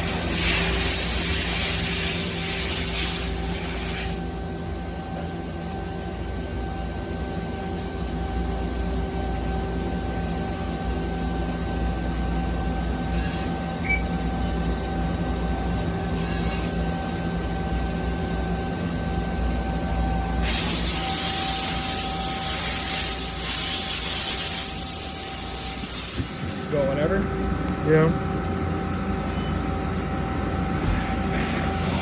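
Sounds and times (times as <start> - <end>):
lathe machine hum and whine: 0.0 - 32.0.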